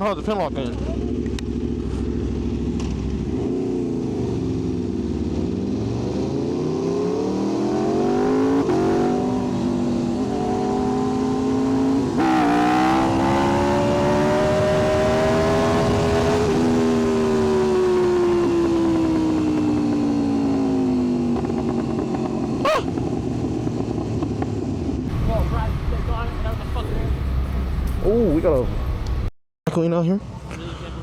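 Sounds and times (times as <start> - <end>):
motorcycle engine accelerating: 0.0 - 29.3.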